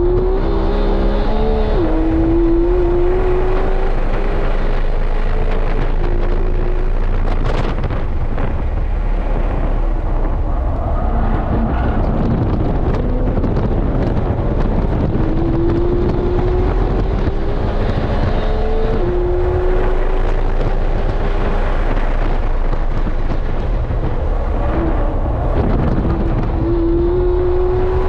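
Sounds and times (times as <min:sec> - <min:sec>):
car engine accelerating: 0:00.0 - 0:28.0
road and tyre rumble: 0:00.0 - 0:28.0.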